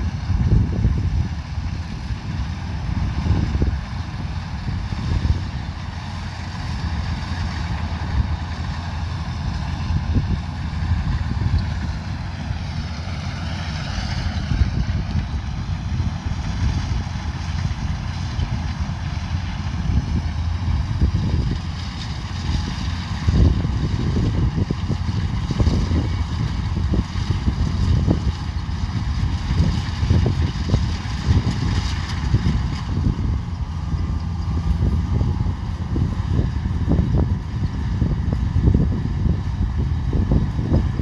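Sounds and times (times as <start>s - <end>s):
combine harvester deep rumble: 0.0s - 41.0s.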